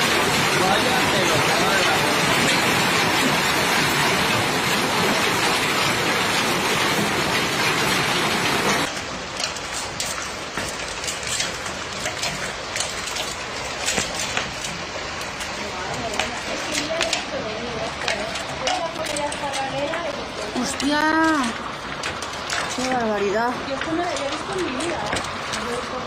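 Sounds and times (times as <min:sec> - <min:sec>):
hailstones striking pavement: 0:00.0 - 0:26.0.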